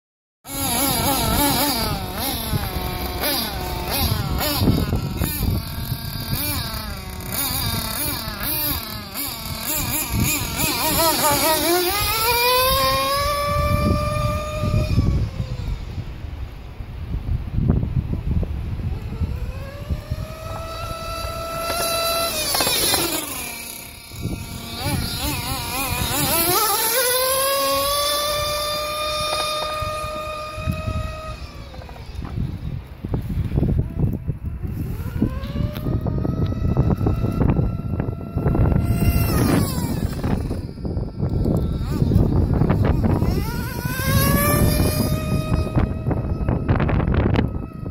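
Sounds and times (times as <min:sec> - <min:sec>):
radio-controlled car engine revving: 0:00.5 - 0:16.4, 0:18.7 - 0:47.9.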